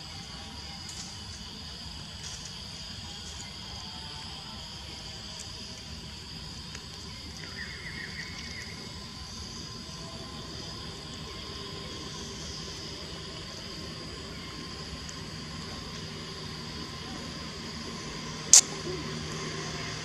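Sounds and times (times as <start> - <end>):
high insect-like drone: 0.0 - 20.0.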